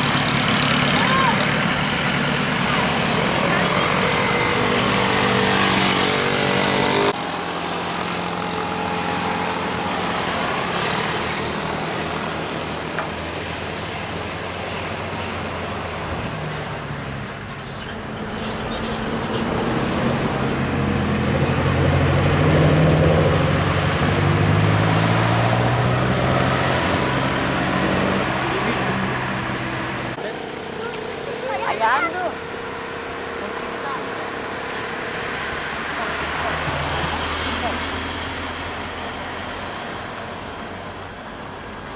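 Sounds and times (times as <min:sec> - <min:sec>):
heavy vehicle engines running: 0:00.0 - 0:41.9
road traffic passing: 0:00.0 - 0:41.9.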